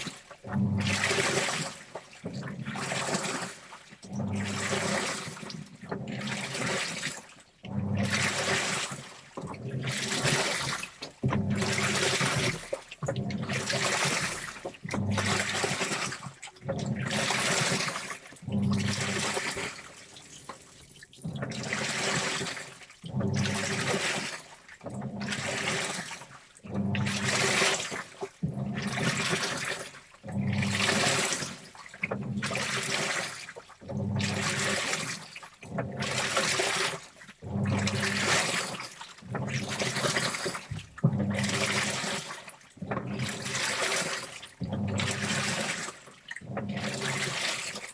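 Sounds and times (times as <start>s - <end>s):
washing machine water sloshing: 0.0s - 47.9s.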